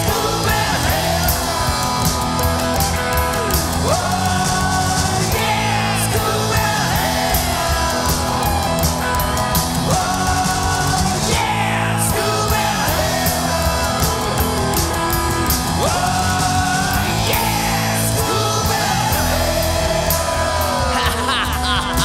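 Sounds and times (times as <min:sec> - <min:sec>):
electric guitar bending notes: 0:00.0 - 0:22.0
rock instrumental: 0:00.0 - 0:22.0.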